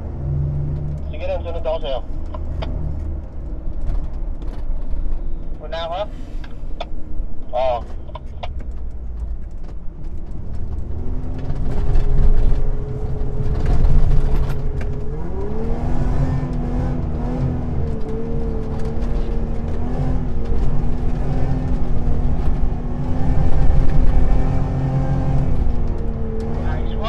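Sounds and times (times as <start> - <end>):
four-wheel drive engine pulling: 0.0 - 27.0.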